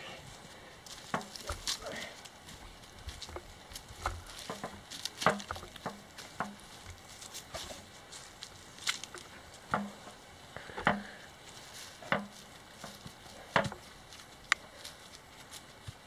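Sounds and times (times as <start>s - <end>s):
walking footsteps: 0.0s - 16.0s.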